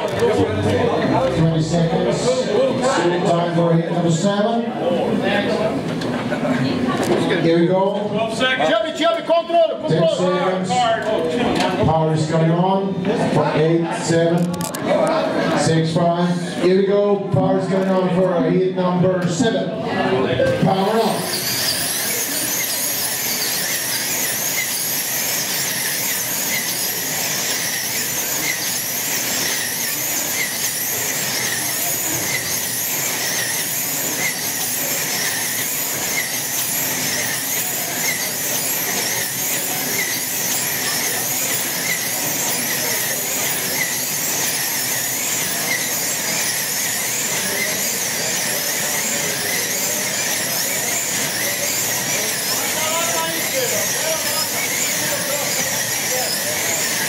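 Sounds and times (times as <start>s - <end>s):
slot car motors whining: 0.0s - 57.0s.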